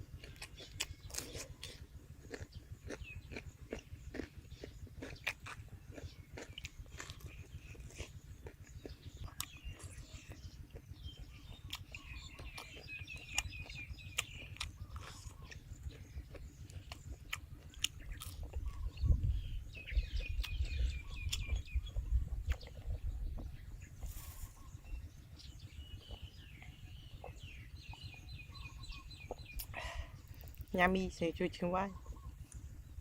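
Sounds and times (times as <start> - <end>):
crunchy food being chewed: 0.0 - 30.8, 32.0 - 33.0
birds chirping: 0.0 - 33.0.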